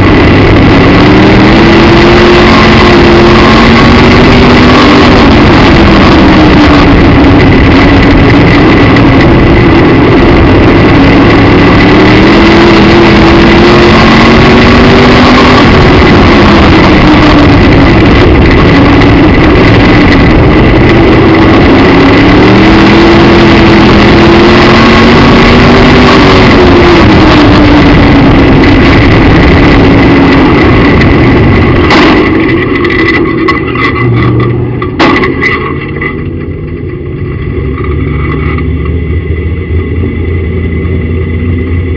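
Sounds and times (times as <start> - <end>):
engine popping: 0.0 - 41.9
race car engine revving: 0.0 - 41.9.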